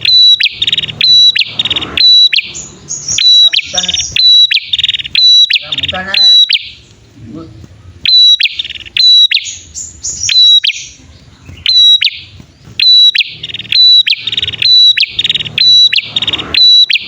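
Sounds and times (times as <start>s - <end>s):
buzzy rattling bird notes: 0.0s - 17.0s
high chip notes of birds: 0.0s - 17.0s.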